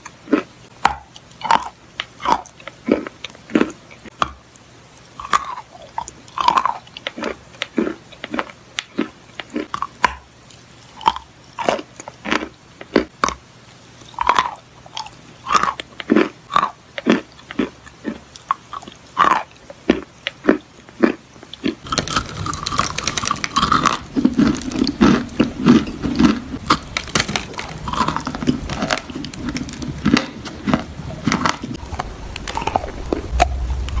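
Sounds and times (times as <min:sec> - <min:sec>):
chalk crunching when chewed: 0:05.0 - 0:13.4, 0:14.0 - 0:33.5.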